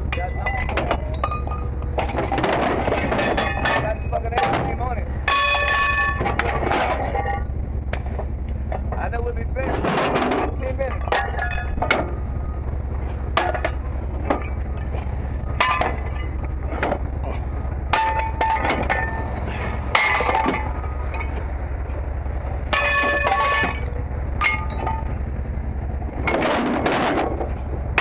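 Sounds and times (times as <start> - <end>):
steady low hum: 0.0 - 28.0
scrap metal parts clanking: 0.1 - 12.2, 13.0 - 21.5, 22.7 - 25.2, 26.1 - 28.0.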